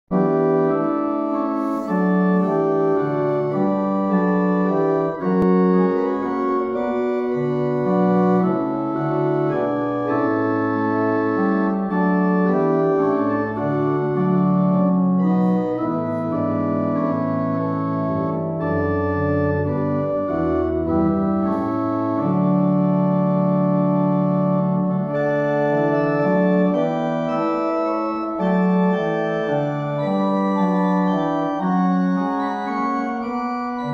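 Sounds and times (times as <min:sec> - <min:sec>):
pipe organ playing chords: 0:00.1 - 0:33.9.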